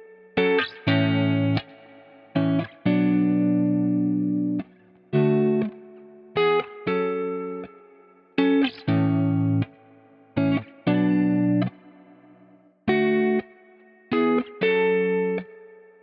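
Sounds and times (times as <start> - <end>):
guitar chords with echo: 0.0 - 16.0.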